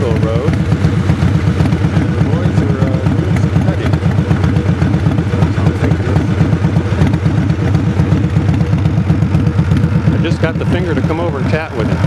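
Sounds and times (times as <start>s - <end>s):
engine running with low throb: 0.0s - 12.0s.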